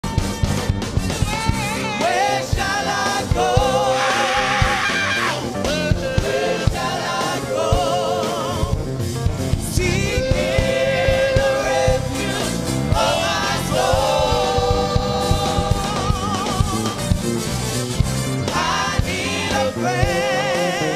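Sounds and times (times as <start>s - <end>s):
voices singing with vibrato: 0.0s - 17.4s, 18.3s - 20.9s
rhythmic band accompaniment: 0.0s - 20.9s.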